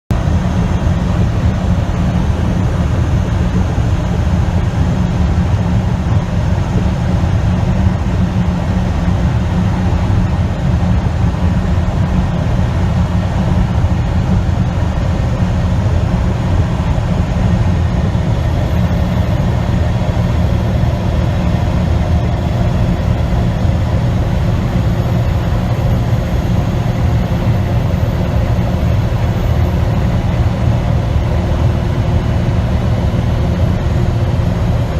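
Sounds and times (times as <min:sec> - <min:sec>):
truck engine drone: 0:00.1 - 0:34.9.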